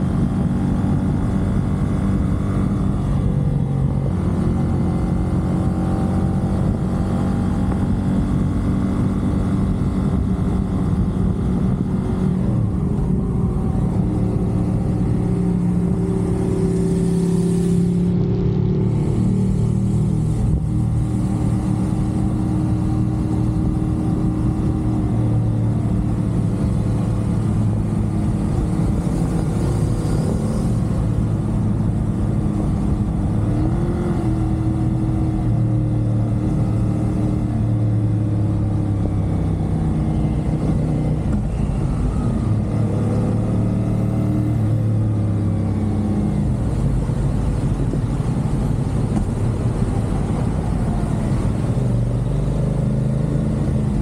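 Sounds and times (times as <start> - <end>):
motorcycle engine cruising: 0.0 - 54.0
road noise rushing: 0.0 - 54.0.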